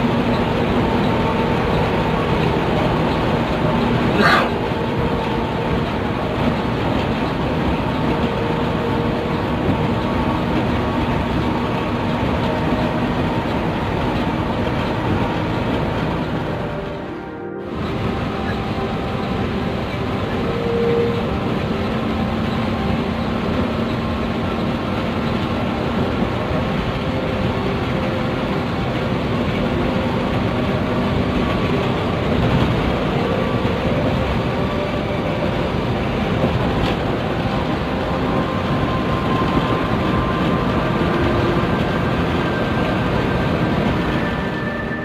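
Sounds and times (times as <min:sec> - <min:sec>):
bus engine and road rumble: 0:00.0 - 0:45.0
faint whining tones: 0:00.0 - 0:45.0.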